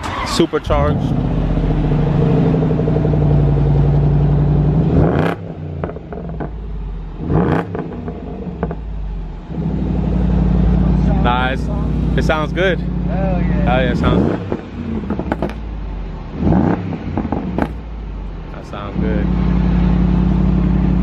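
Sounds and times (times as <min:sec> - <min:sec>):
car engine revving and idling: 0:00.0 - 0:21.0.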